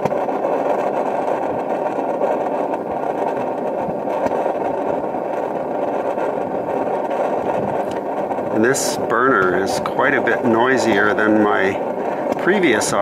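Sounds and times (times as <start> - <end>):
faint burner pops: 0.0 - 13.0
propane burner flame: 0.0 - 13.0.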